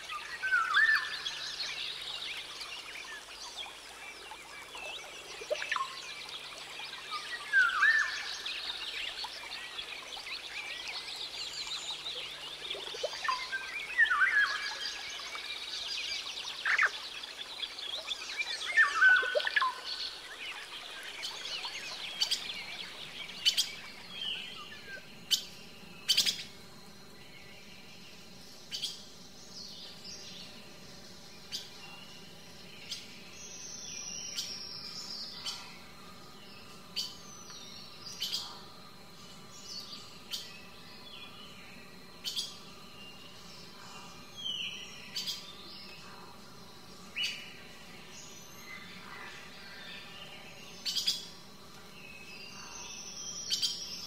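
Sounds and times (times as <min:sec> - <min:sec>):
birds singing and calling: 0:00.0 - 0:46.4, 0:47.0 - 0:54.0.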